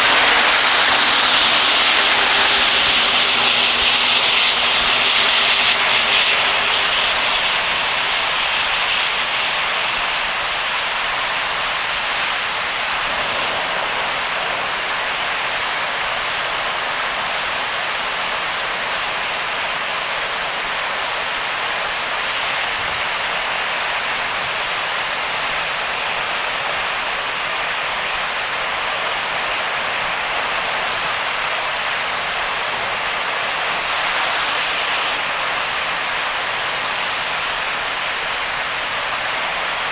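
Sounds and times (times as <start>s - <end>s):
tyre spray on wet road: 0.0s - 25.2s, 27.7s - 39.9s
heavy rain: 0.0s - 39.9s.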